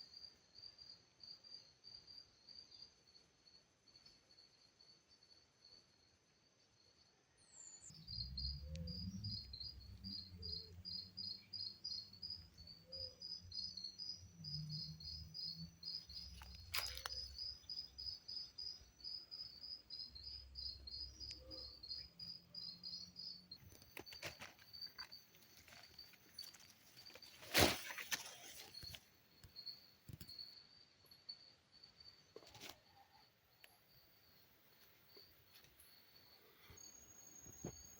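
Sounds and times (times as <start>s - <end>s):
insect chirping: 0.0s - 37.9s.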